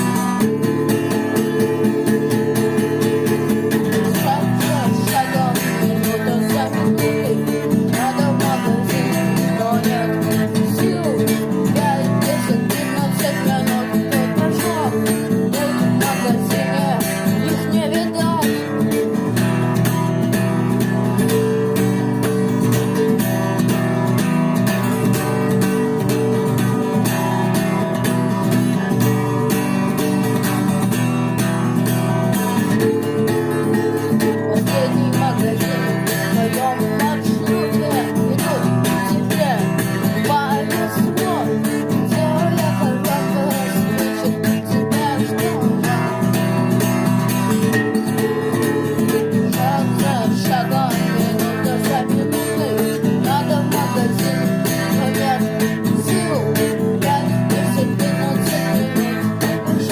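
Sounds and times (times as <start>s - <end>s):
guitar band instrumental: 0.0s - 59.9s
lead guitar melody: 0.0s - 59.9s.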